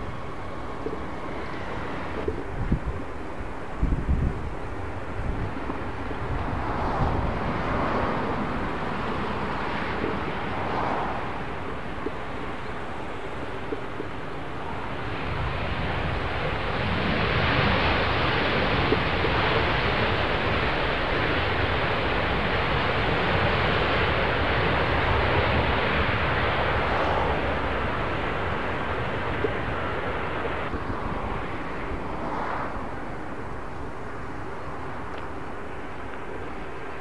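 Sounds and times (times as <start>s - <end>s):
jet engines roaring: 0.0s - 3.8s, 4.4s - 37.0s.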